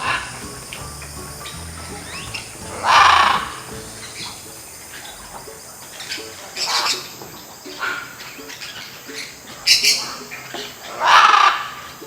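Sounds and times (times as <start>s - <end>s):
bird calls: 0.0s - 12.0s
faint background music: 0.0s - 12.0s.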